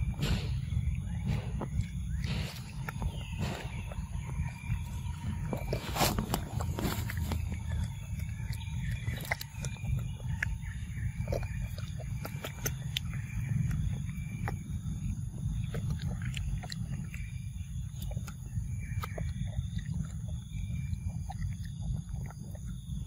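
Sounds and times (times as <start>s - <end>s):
monkey chewing wet smacks: 0.0s - 22.8s
low rumble: 0.0s - 23.0s.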